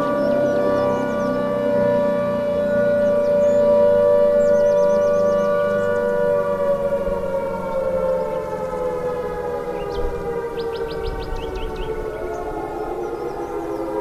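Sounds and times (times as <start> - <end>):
civil defense siren: 0.0 - 14.0.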